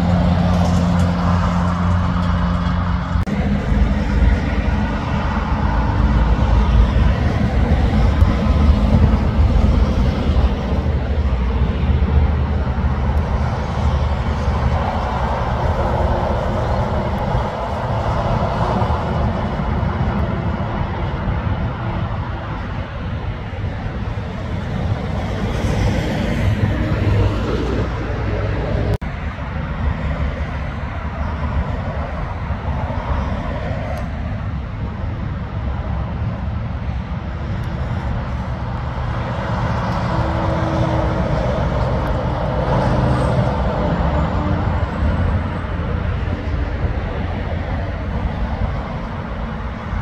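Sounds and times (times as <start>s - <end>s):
heavy truck engine drone: 0.0s - 50.0s
highway traffic passing: 0.0s - 50.0s.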